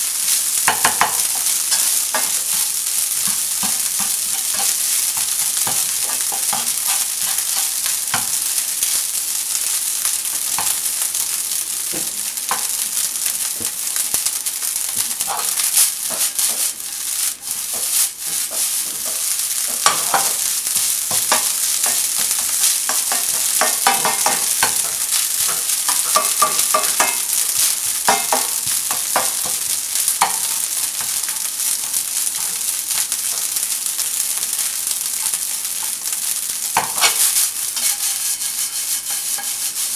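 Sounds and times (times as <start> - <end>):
rice sizzling in frying pan: 0.0 - 39.9
spatula scraping and tapping pan: 0.2 - 39.9.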